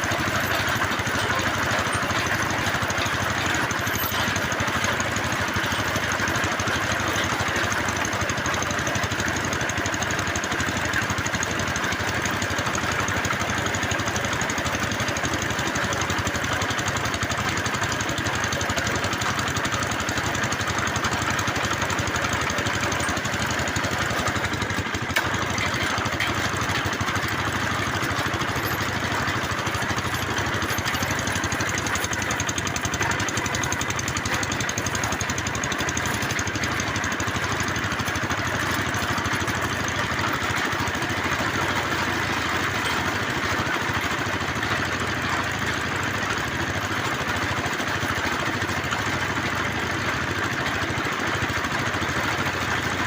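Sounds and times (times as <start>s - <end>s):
drilling machine engine running: 0.0s - 53.0s.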